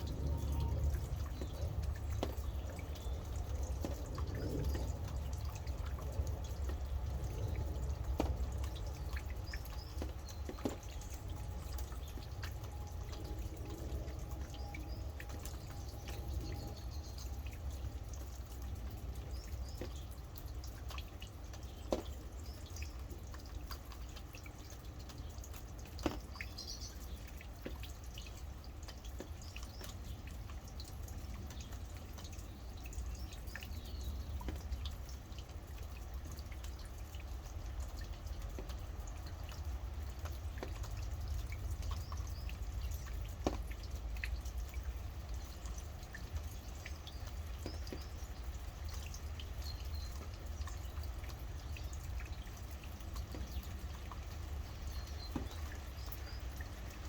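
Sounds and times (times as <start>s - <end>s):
raindrops ticking: 0.0s - 57.0s.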